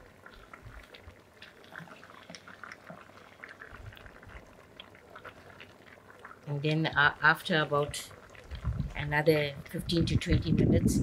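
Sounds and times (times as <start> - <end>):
curry simmering popping: 0.0 - 11.0.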